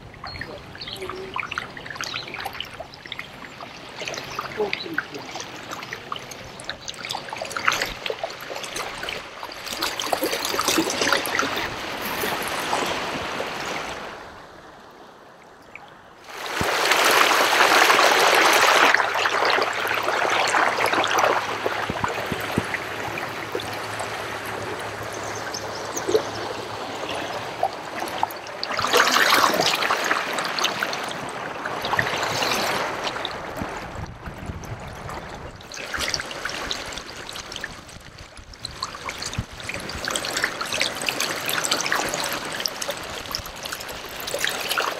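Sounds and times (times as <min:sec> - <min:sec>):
water splashing along canoe hull: 0:00.0 - 0:44.9.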